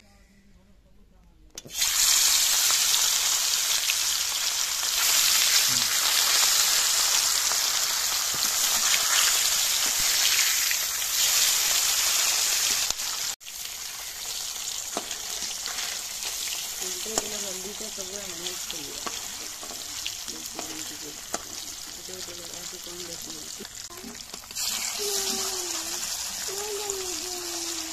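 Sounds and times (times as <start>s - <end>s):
fish sizzling in hot oil: 1.7s - 27.9s.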